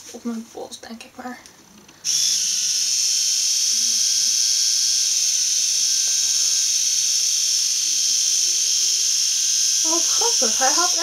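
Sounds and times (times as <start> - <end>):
epilator whining: 2.0 - 11.0.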